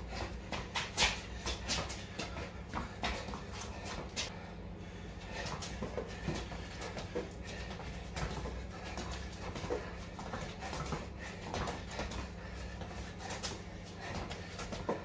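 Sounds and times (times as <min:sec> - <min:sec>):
footsteps on concrete floor: 0:00.0 - 0:04.5, 0:05.2 - 0:15.0
low hum: 0:00.0 - 0:15.0.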